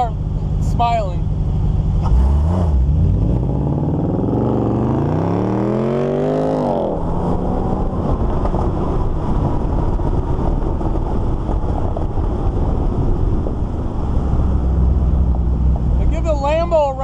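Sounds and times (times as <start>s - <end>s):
car engine accelerating hard: 1.7s - 16.1s.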